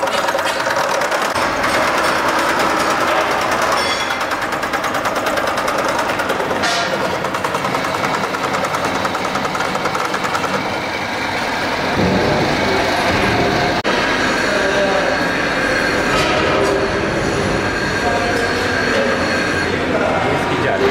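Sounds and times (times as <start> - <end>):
workshop machinery rattling: 0.0 - 20.9.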